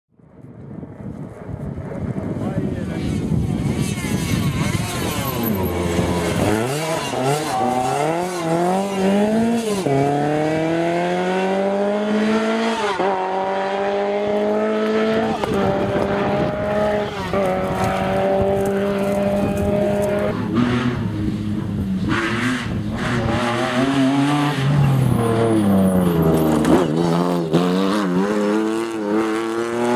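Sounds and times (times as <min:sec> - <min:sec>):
rally car engine revving: 0:01.4 - 0:29.9.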